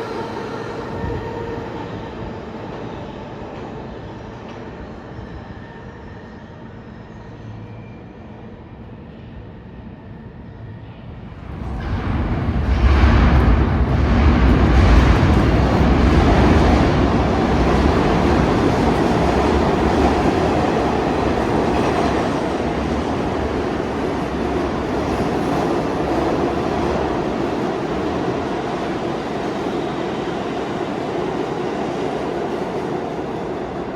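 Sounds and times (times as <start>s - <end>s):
subway train running: 0.0s - 33.9s.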